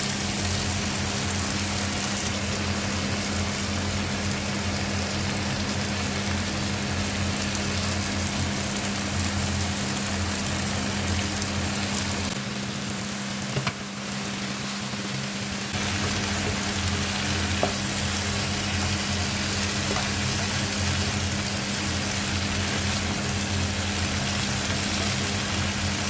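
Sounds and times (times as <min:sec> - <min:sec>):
steady low hum: 0:00.0 - 0:26.0
vegetables sizzling in frying pan: 0:00.0 - 0:26.0.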